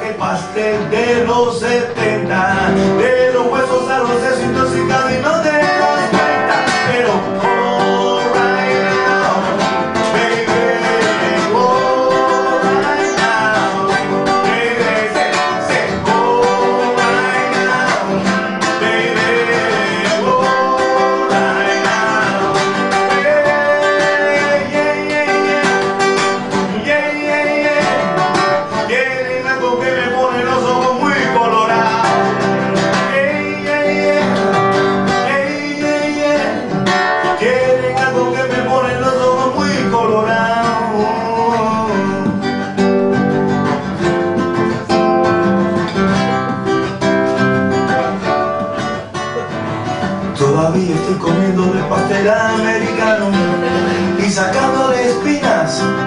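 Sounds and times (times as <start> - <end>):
man singing: 0.0 - 42.9, 50.2 - 56.0
strummed guitar: 0.0 - 56.0.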